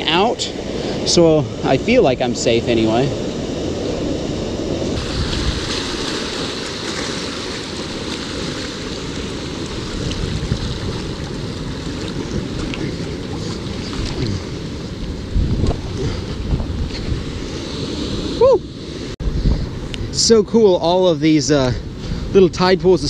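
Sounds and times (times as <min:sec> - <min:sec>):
ocean surf rushing around rocks: 0:00.0 - 0:23.0.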